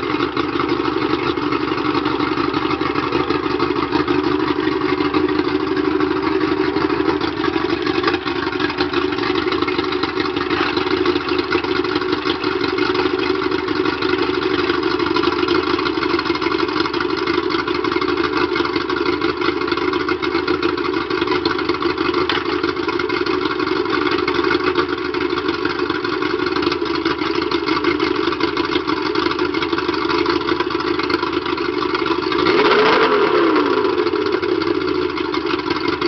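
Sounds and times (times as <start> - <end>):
outboard motor idling: 0.0 - 36.0.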